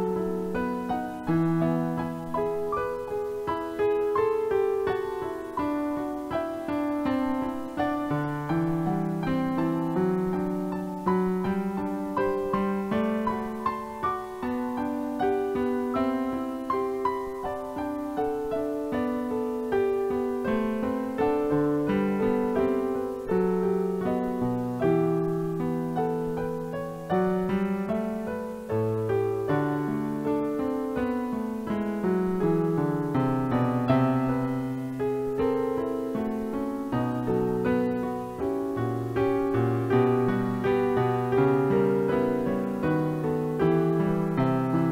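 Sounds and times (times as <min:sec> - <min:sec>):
gentle piano music: 0:00.0 - 0:44.9.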